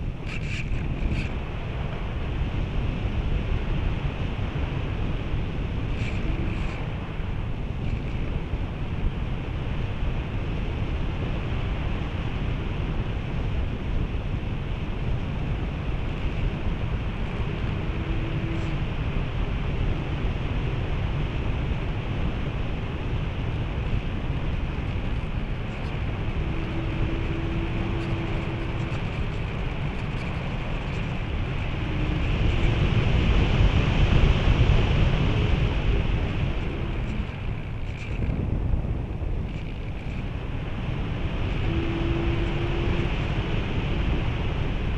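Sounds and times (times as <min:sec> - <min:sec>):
wind noise on microphone: 0:00.0 - 0:44.9.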